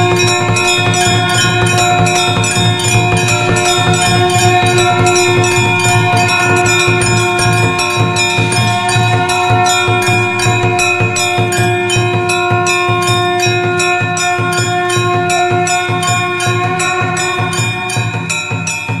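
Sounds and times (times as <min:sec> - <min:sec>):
temple bells ringing rapidly: 0:00.0 - 0:19.0.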